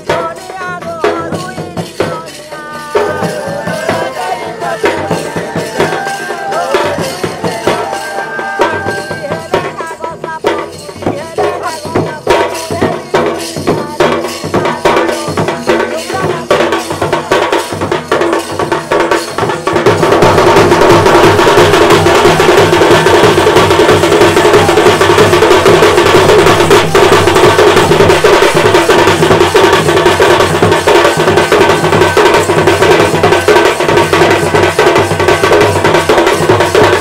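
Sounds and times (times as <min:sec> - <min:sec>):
folk dance drums and percussion: 0:00.0 - 0:37.0.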